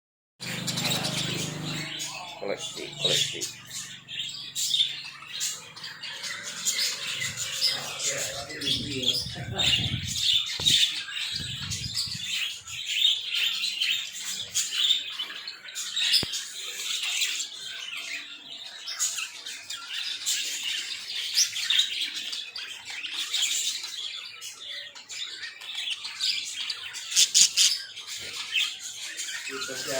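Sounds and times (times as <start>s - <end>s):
small birds chirping: 0.4s - 29.9s.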